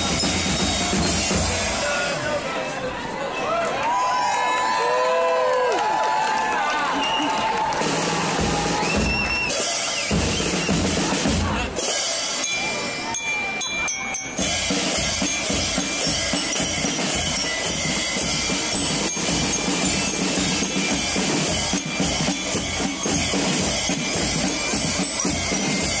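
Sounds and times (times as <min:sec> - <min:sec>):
band music: 0:00.0 - 0:02.8, 0:07.7 - 0:26.0.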